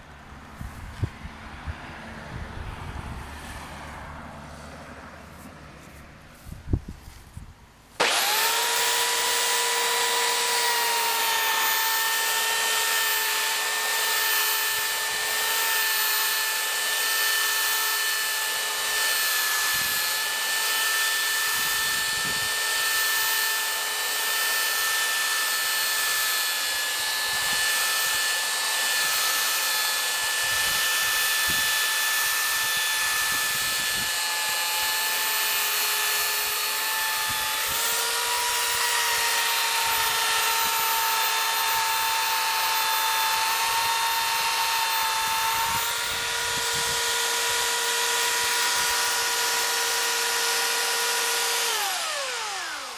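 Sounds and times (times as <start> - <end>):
electric sander sanding wood: 4.6 - 52.9.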